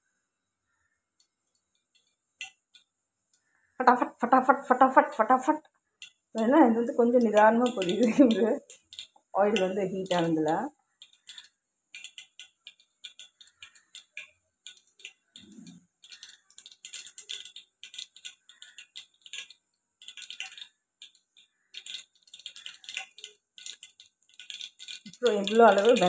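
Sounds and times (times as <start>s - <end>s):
seeds popping in hot oil: 0.7s - 26.0s.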